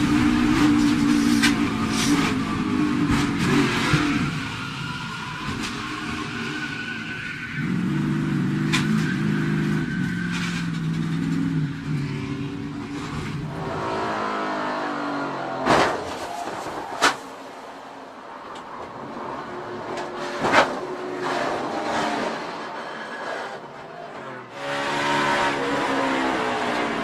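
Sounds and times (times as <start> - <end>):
race car engine at speed: 0.0 - 27.0.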